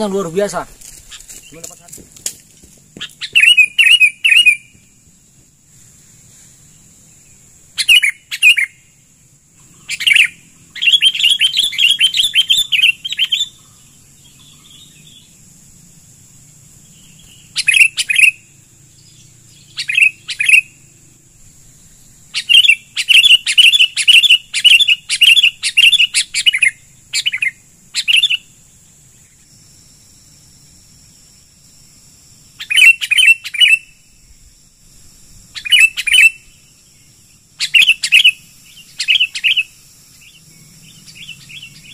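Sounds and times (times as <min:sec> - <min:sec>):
birds calling in harsh bursts: 0:00.0 - 0:29.4, 0:32.5 - 0:41.9.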